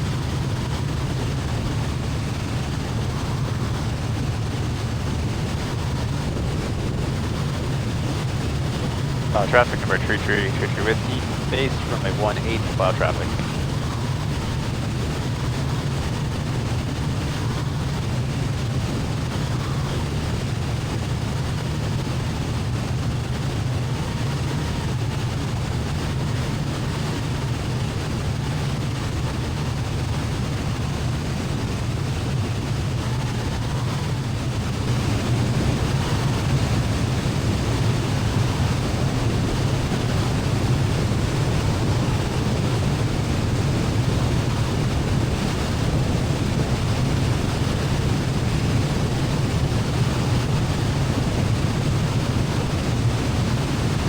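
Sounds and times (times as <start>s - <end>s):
propeller airplane engine droning: 0.0s - 54.0s.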